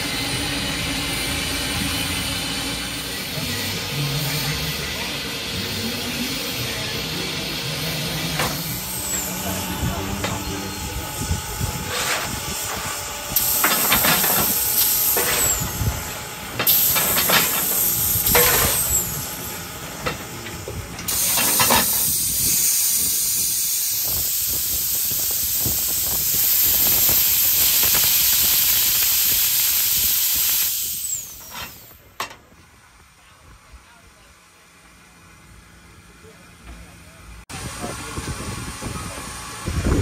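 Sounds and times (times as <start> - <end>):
steam hissing: 0.0 - 32.1.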